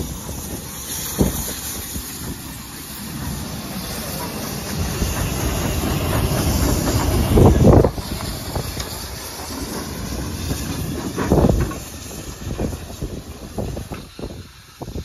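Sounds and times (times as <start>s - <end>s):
steam hissing: 0.0s - 15.0s
steam locomotive rumble: 0.0s - 15.0s
wheels clattering over rail joints: 0.0s - 15.0s.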